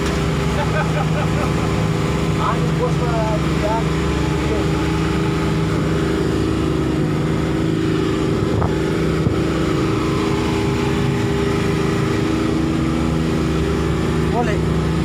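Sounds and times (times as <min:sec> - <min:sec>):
outboard motors humming: 0:00.0 - 0:15.0.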